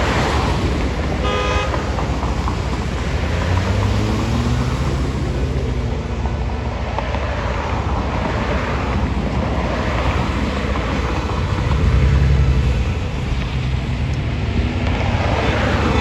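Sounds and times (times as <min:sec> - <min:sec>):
low engine rumble: 0:00.0 - 0:16.0
passing cars: 0:00.0 - 0:16.0
wind buffeting microphone: 0:00.0 - 0:16.0.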